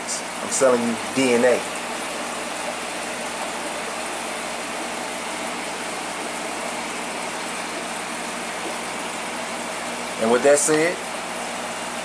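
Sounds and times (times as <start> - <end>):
aquarium pumps humming: 0.0 - 12.0
water flowing in tank: 0.0 - 12.0.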